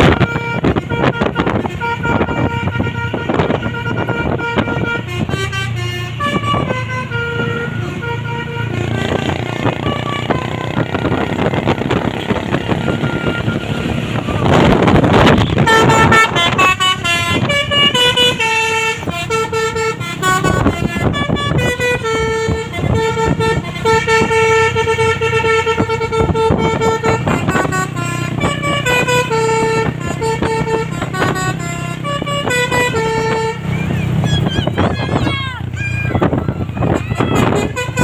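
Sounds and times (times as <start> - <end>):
musical truck horn melody: 0.0 - 38.0
truck engine running: 0.0 - 38.0.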